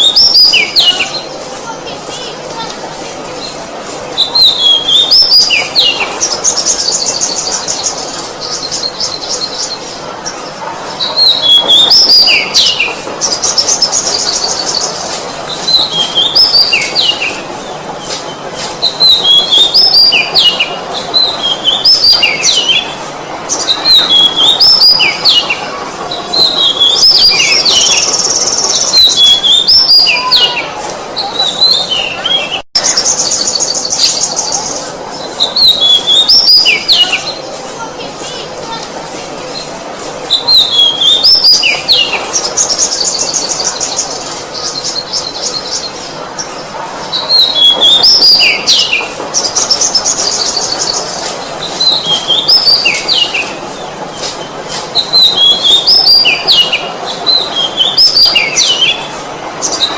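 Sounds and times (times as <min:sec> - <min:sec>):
bird singing whistled notes and trills: 0:00.0 - 0:01.4, 0:04.2 - 0:10.4, 0:11.0 - 0:17.5, 0:18.3 - 0:37.6, 0:40.3 - 0:59.9.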